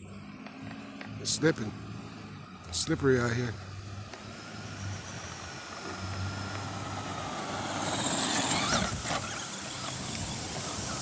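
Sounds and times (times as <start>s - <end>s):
rc truck electric motor whining: 0.0s - 11.0s.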